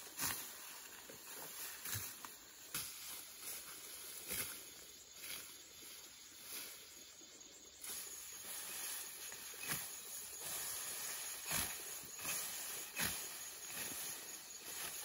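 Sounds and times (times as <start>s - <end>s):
grass rustling as cut by hand: 0.0s - 6.8s, 7.8s - 15.0s.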